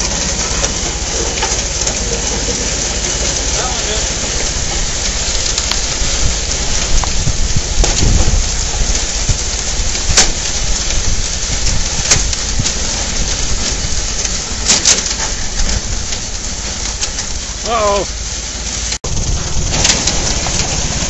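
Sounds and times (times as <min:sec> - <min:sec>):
bale loader clattering: 0:00.0 - 0:21.0
tractor running: 0:00.0 - 0:21.0.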